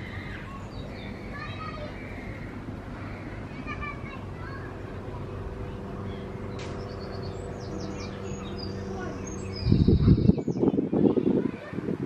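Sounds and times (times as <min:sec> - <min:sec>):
birds chirping: 0:00.0 - 0:11.9
steady low hum: 0:00.0 - 0:12.0.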